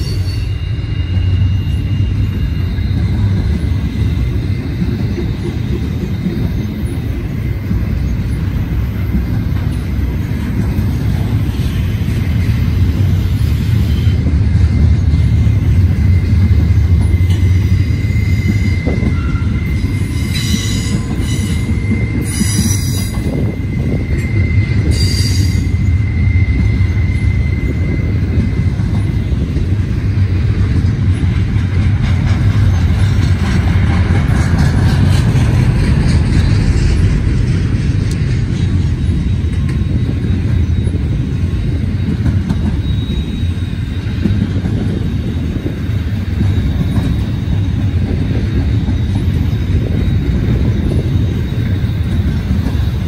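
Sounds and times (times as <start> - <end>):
wheel flange squeal: 0.0 - 10.1, 10.7 - 29.8, 38.0 - 53.0
steel wheels rumbling on rail: 0.0 - 53.0.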